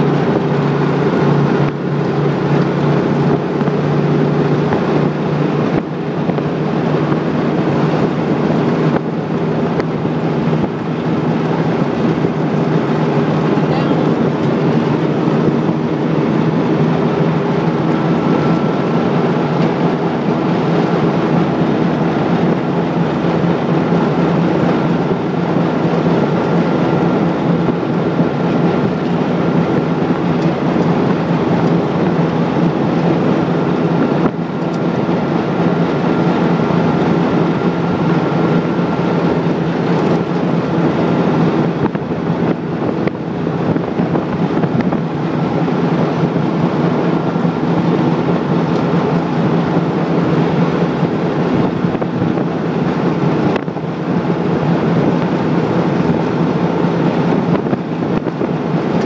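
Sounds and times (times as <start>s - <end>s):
engine drone inside vehicle: 0.0s - 59.0s
road and tyre noise: 0.0s - 59.0s.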